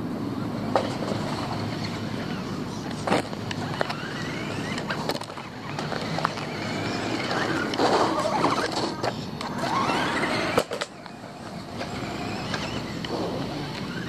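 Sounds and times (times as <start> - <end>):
tyres gritting on road: 0.0 - 14.0
rc car motor whining: 0.7 - 14.0.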